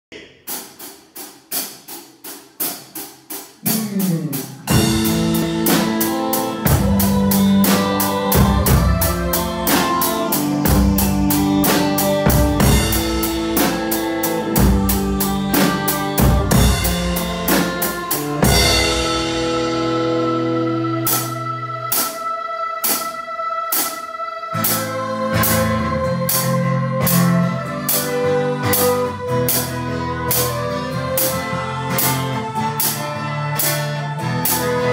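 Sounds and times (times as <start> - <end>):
slow pop song by band: 3.6 - 34.9.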